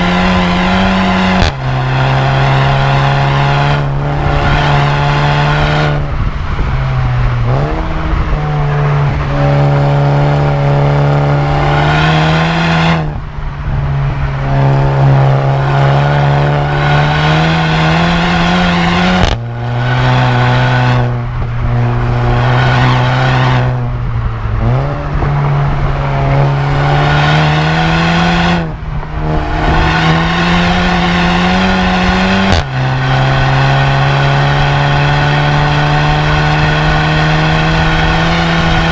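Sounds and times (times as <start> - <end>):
car engine accelerating through gears: 0.0 - 38.9.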